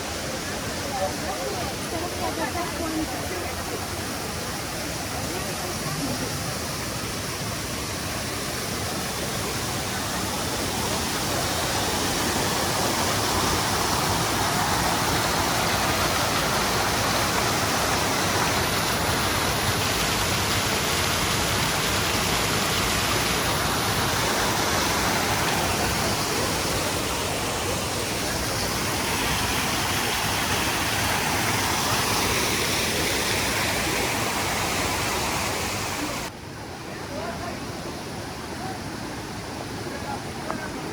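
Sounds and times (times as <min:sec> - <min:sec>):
fast-flowing stream rushing: 0:00.0 - 0:40.9.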